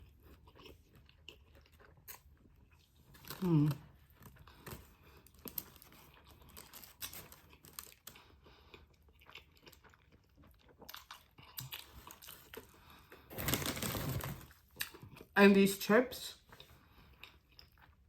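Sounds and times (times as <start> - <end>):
chewing food with crunches: 0.0 - 15.4, 16.3 - 18.0.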